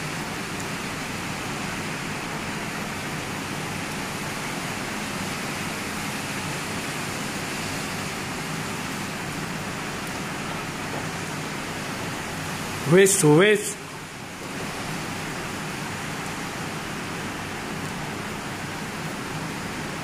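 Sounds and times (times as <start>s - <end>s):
constant room hiss: 0.0s - 20.0s.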